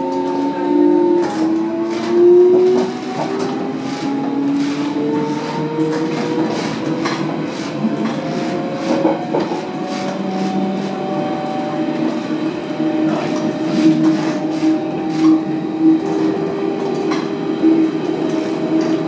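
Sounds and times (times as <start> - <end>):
electric train motor whine: 0.0 - 19.0
train running gear rumble: 0.0 - 19.0.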